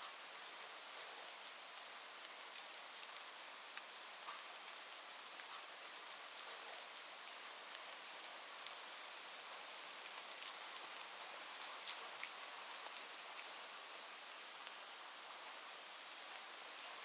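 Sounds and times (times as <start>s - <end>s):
rain falling: 0.0s - 17.0s
raindrops ticking on a surface: 0.0s - 17.0s.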